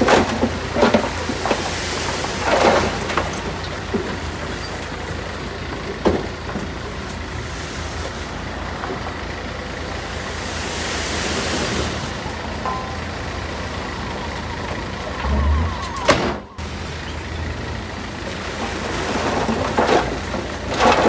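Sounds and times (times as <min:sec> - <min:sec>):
diesel engine of heavy machinery: 0:00.0 - 0:21.0.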